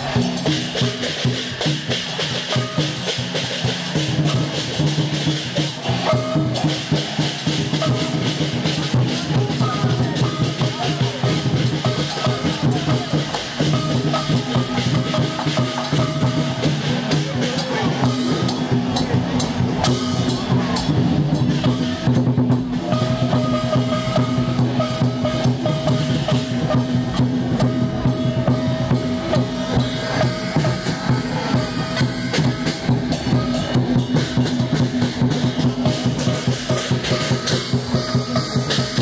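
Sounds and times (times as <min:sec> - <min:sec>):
cymbals clashing: 0:00.0 - 0:39.0
drum beating: 0:00.0 - 0:39.0.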